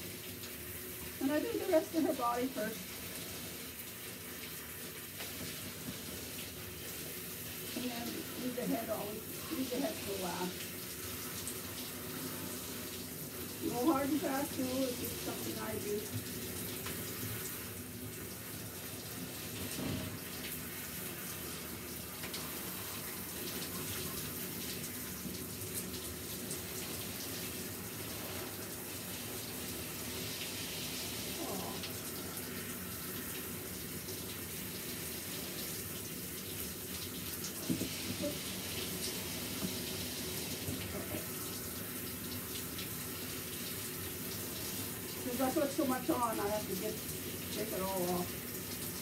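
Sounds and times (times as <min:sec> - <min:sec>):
shower sprayer running: 0:00.0 - 0:49.0.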